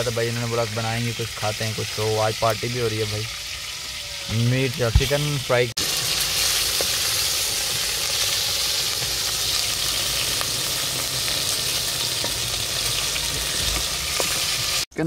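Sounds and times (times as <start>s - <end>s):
chicken sizzling in oil: 0.0s - 14.9s.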